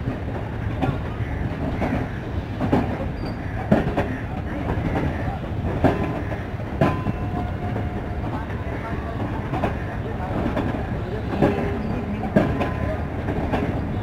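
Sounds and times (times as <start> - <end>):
train coaches rumbling: 0.0 - 14.0.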